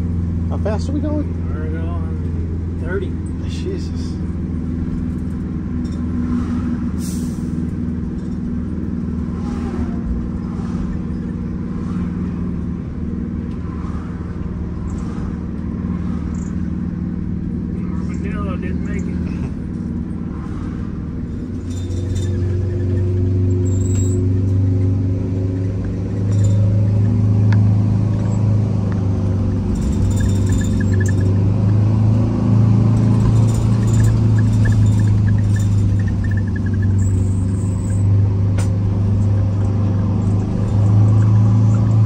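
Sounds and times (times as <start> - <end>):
diesel engine drone: 0.0 - 42.0
road noise: 0.0 - 42.0.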